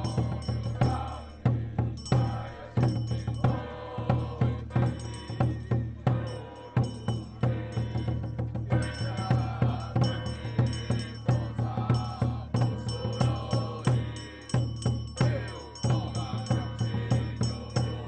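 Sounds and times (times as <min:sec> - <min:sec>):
drums and percussion beat: 0:00.0 - 0:18.0
gliding chanting or reed melody: 0:00.0 - 0:18.0.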